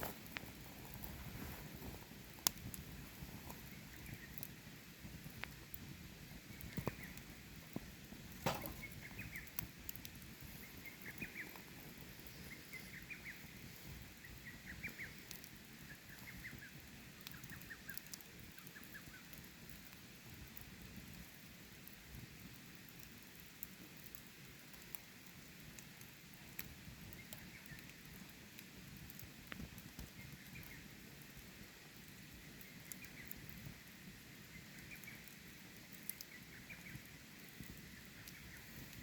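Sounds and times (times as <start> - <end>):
faint campfire crackling: 0.0 - 39.0.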